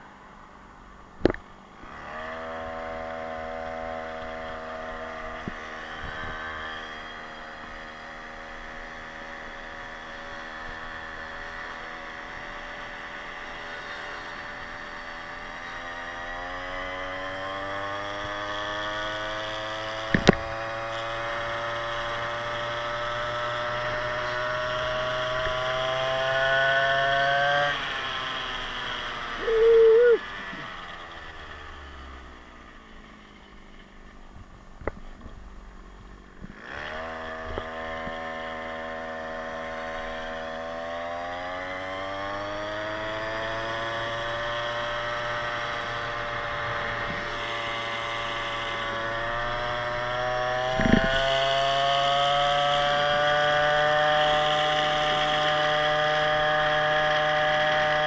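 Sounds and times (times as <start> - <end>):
scooter two-stroke engine revving: 1.2 - 58.0.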